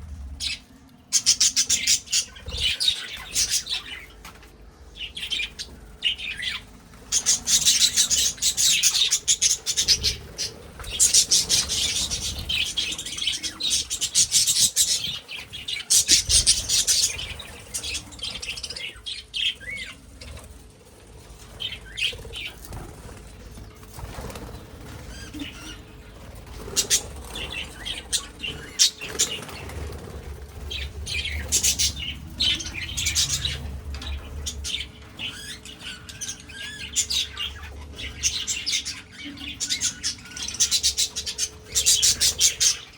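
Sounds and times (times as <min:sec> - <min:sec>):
budgies chirping: 0:00.1 - 0:42.9
budgies flapping wings: 0:00.3 - 0:39.0, 0:39.6 - 0:42.9.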